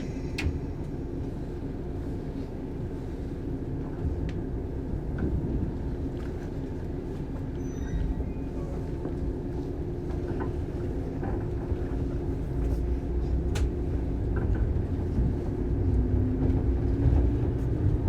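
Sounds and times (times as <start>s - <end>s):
train carriage rumble and hum: 0.0s - 18.0s.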